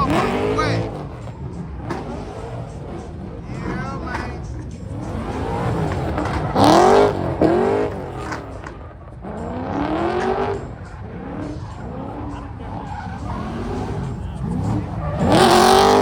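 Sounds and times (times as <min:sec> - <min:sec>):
car engines revving past: 0:00.0 - 0:16.0.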